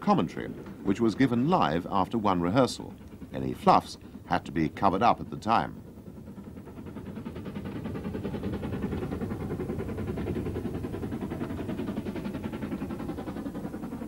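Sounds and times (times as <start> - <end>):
steam train running: 0.0 - 14.0.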